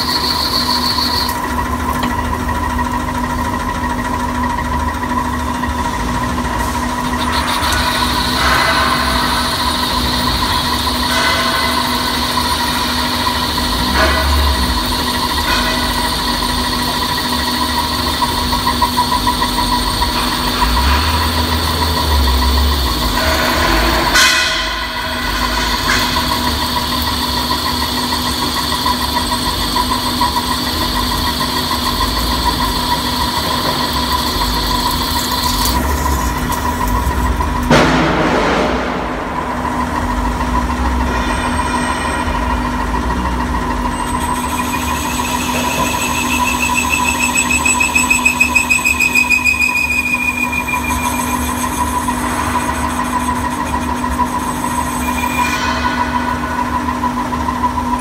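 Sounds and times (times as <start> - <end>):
lathe whine with cutting noise: 0.0 - 37.7, 39.6 - 58.0.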